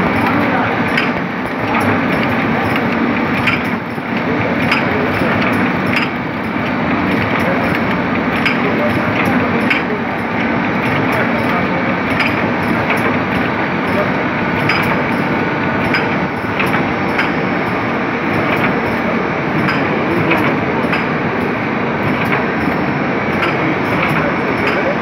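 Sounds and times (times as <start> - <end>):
production line machinery running: 0.0 - 25.0
machine parts clicking and clacking: 0.1 - 25.0.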